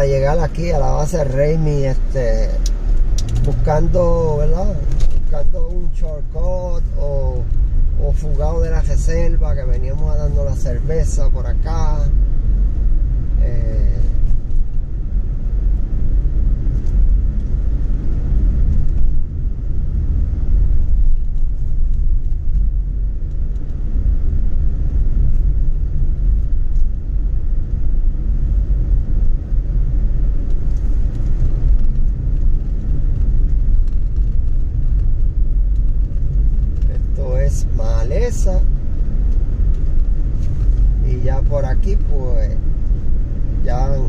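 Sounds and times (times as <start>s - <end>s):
car cabin road and engine rumble: 0.0s - 44.0s.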